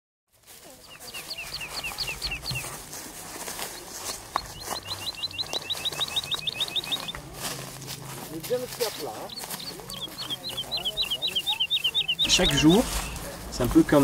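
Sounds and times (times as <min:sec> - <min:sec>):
footsteps on dry leaves: 0:00.3 - 0:14.0
songbird singing: 0:00.4 - 0:14.0.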